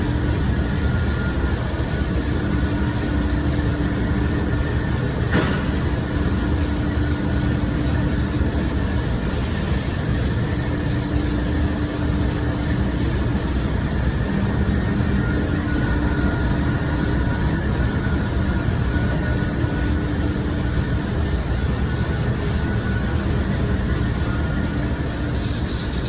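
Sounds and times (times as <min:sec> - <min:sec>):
industrial machinery drone: 0:00.0 - 0:26.0.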